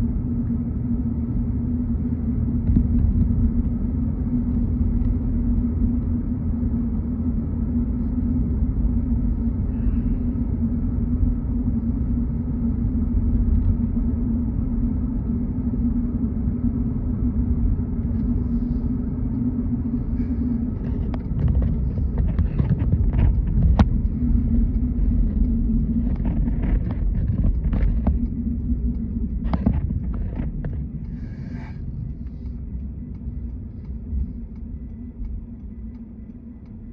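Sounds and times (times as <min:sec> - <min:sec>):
road and engine rumble: 0:00.0 - 0:36.9.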